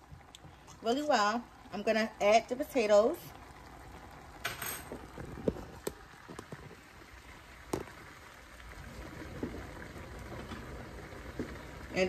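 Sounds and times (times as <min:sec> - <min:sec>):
cabbage simmering in skillet: 0:00.0 - 0:12.0.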